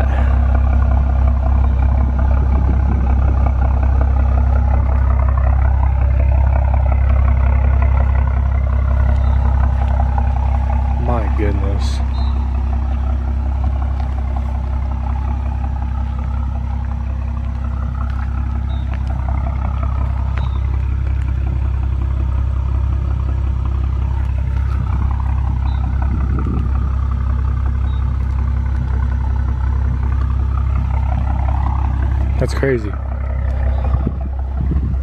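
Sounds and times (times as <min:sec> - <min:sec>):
car engine idling with deep drone: 0:00.0 - 0:35.0.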